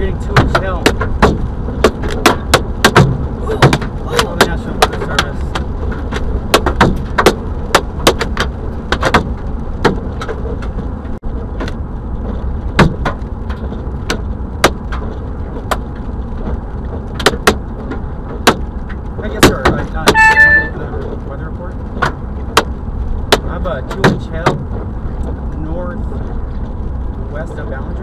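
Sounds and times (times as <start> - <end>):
hailstones hitting a car: 0.0 - 10.9, 11.5 - 20.2, 21.9 - 28.0
car driving on wet road: 0.0 - 28.0.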